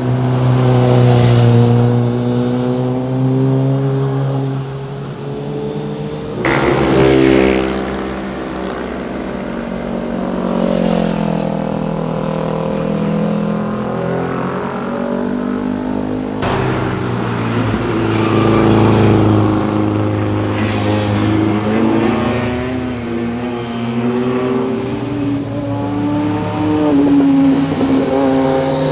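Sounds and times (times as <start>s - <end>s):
motorcycle engines revving past: 0.0s - 28.9s.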